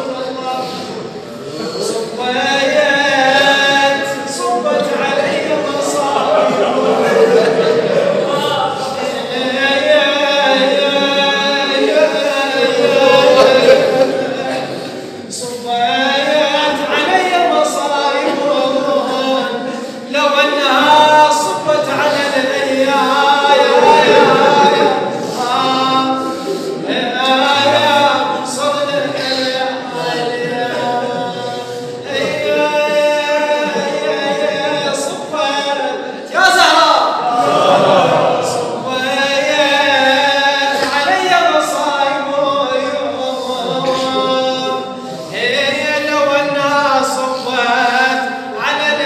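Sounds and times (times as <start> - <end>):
man singing devotional chant: 0.0 - 49.0.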